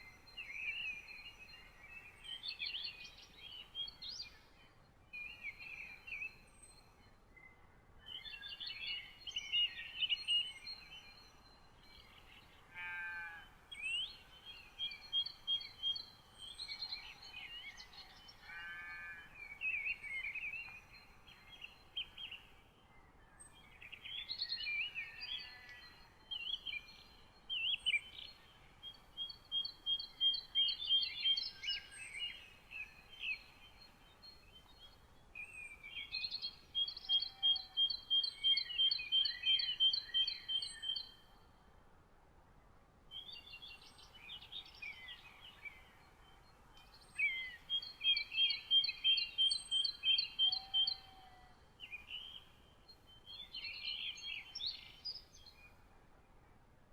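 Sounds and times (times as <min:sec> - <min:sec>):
birds twittering and chirping: 0:00.0 - 0:41.4, 0:43.2 - 0:55.9
bird song of rapid notes: 0:00.0 - 0:41.6, 0:43.1 - 0:56.2.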